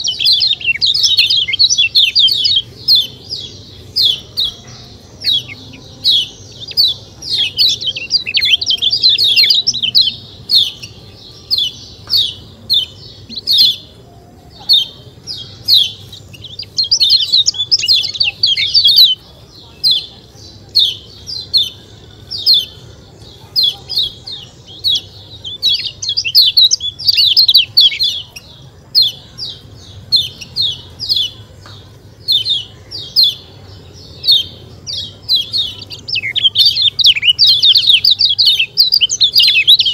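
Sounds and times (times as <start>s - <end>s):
white-eye bird chip calls: 0.0s - 39.9s.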